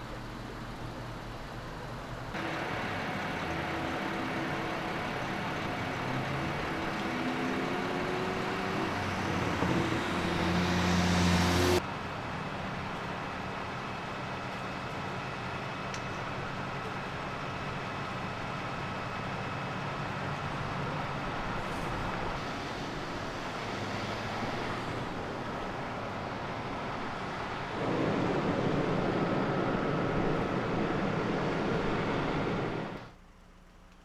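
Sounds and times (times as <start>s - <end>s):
engine humming: 0.0s - 34.0s
outdoor background noise: 0.0s - 34.0s.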